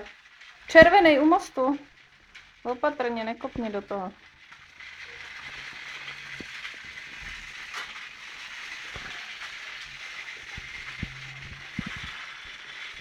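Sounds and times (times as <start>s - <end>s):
toy train motors whirring: 0.0s - 13.0s
wheels clicking on track: 0.0s - 13.0s.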